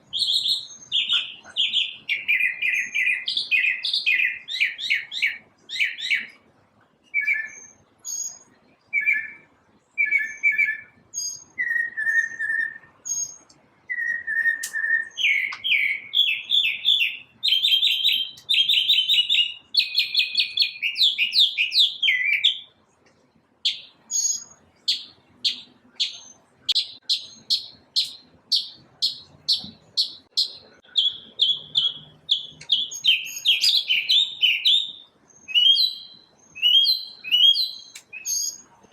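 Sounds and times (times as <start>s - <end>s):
bird singing trills and chirps: 0.0s - 22.9s, 23.6s - 38.9s.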